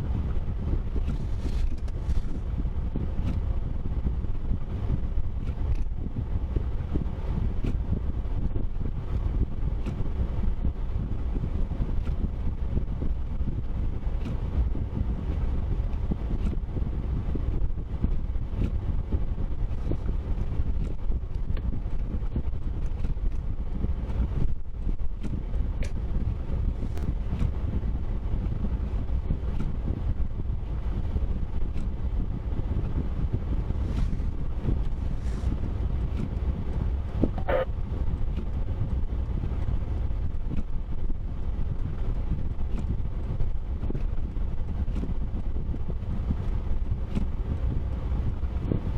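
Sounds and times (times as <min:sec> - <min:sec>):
vehicle rumble: 0:00.0 - 0:48.9
wind buffeting microphone: 0:00.0 - 0:48.9.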